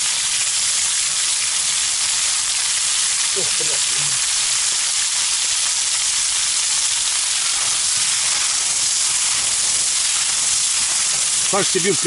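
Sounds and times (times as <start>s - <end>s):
meat and onions sizzling: 0.0s - 12.0s.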